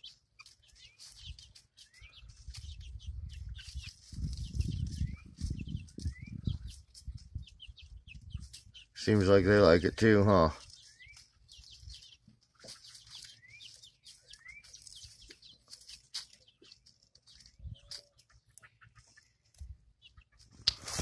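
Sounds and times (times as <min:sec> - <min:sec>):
chicks peeping faintly: 0:00.0 - 0:21.0
pecking taps and rustles in straw: 0:00.0 - 0:21.0.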